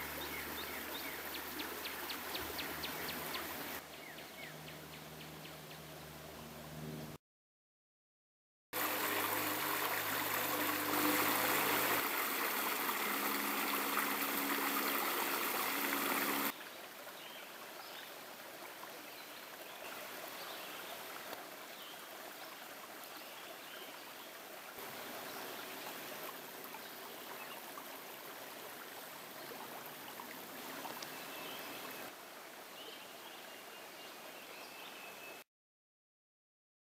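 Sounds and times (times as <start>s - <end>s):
creek running over rocks: 0.0s - 3.9s, 8.8s - 35.2s.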